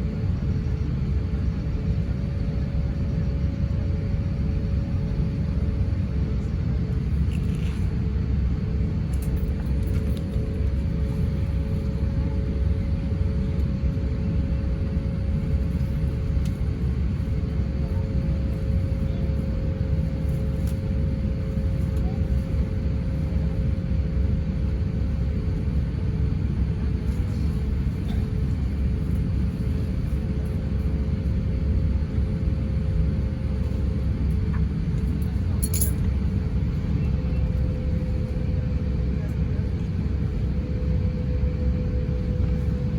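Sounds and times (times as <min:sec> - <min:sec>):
aircraft engine and airflow rumble: 0:00.0 - 0:42.9.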